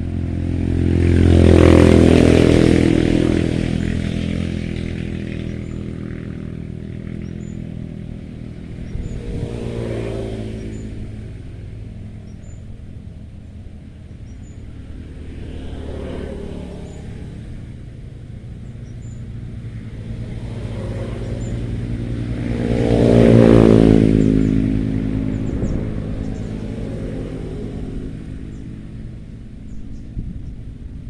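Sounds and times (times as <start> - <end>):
fainter vehicle passing: 0.0 - 31.0
vehicle driving past: 0.0 - 31.0.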